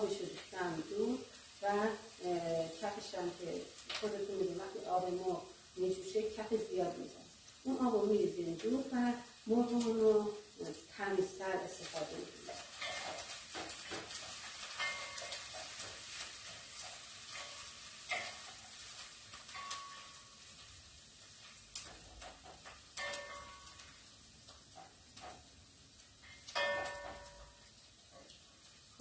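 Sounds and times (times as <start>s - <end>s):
onions sizzling in oil: 0.0s - 29.0s.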